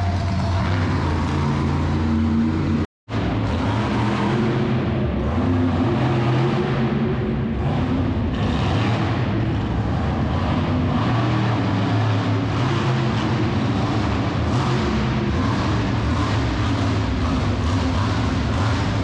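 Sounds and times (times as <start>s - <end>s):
monster truck engine running: 0.0s - 19.0s.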